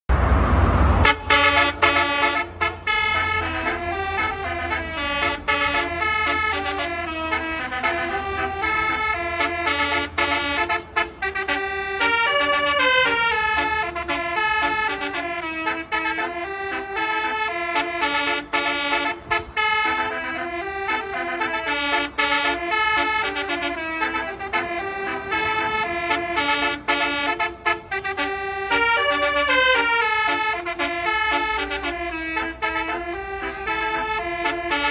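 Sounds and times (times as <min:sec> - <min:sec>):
musical bus horn tune: 0:00.9 - 0:34.9.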